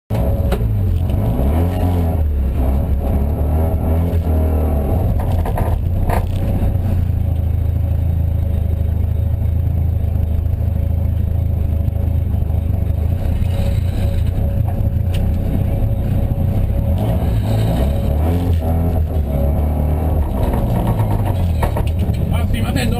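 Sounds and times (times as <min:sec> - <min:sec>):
car engine low drone: 0:00.1 - 0:22.9.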